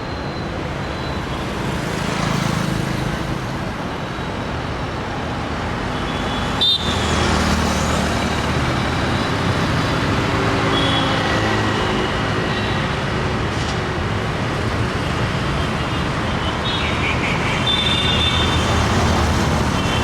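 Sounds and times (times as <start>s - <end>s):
busy road traffic: 0.0s - 20.0s.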